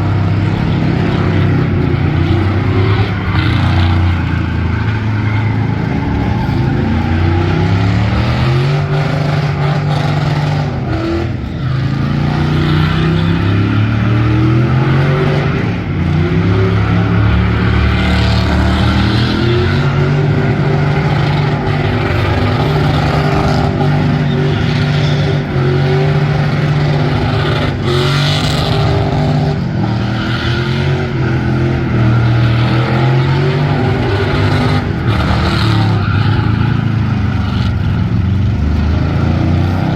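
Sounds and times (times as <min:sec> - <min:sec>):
tire noise from burnout: 0:00.0 - 0:39.9
truck engine revving: 0:00.0 - 0:39.9.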